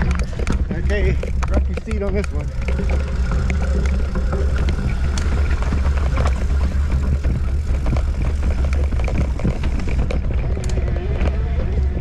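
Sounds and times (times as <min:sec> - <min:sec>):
bike rattling and knocking: 0:00.0 - 0:12.0
wind rumble on microphone: 0:00.0 - 0:12.0.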